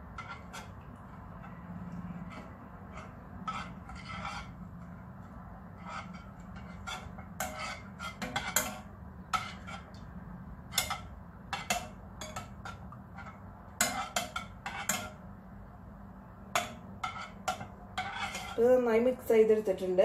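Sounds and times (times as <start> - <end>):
metal spoon scraping saucepan: 0.0 - 15.3, 16.5 - 19.1.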